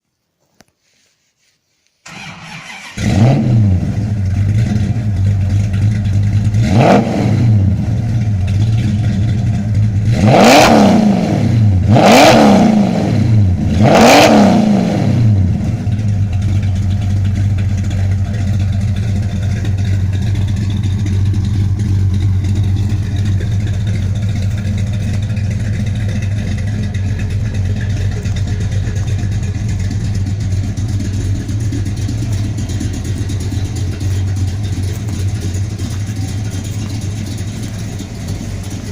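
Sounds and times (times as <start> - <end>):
car engine idling and revving: 2.1 - 38.9.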